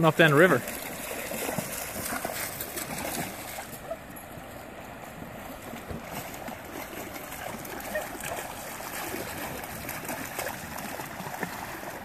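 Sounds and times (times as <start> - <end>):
river water over rapids: 0.0 - 12.0
dog splashing through water: 0.5 - 12.0.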